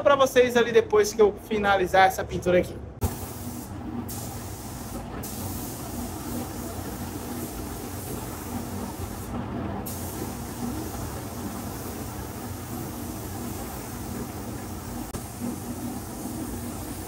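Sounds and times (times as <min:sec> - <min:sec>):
paint spray gun hissing: 0:03.0 - 0:17.0.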